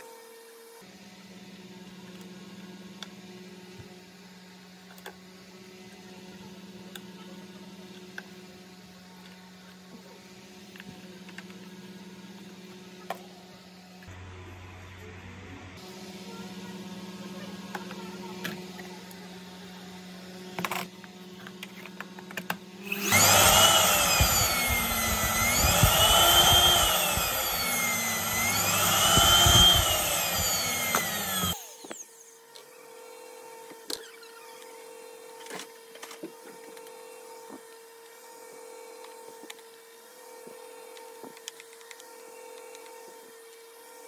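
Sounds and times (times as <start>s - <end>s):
vacuum cleaner motor surging: 0.0s - 15.2s, 15.8s - 44.0s.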